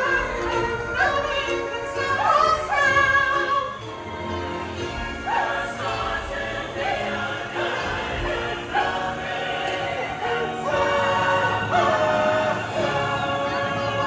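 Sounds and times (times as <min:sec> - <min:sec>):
musical accompaniment: 0:00.0 - 0:14.0
voices singing gliding notes: 0:00.0 - 0:14.0.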